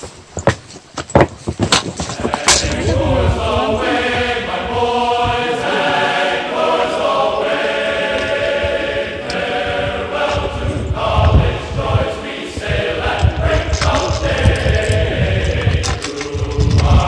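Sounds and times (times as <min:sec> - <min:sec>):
choral chant-like singing: 0:02.1 - 0:17.0.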